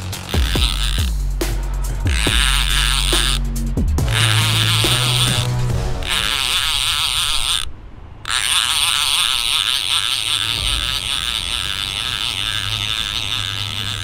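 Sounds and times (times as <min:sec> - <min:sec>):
fishing reel whirring: 0:00.0 - 0:14.0.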